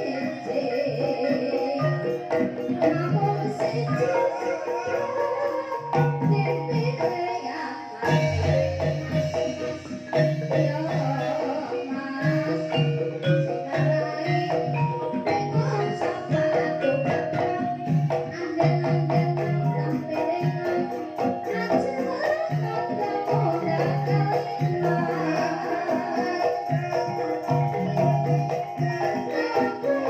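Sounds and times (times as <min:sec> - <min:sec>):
gamelan ensemble playing: 0:00.0 - 0:30.0.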